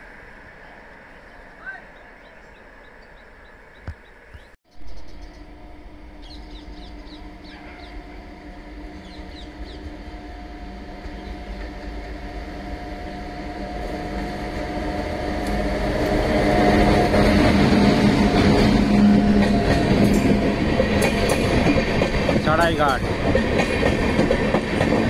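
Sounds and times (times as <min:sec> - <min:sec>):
electric locomotive humming: 0:04.9 - 0:25.0.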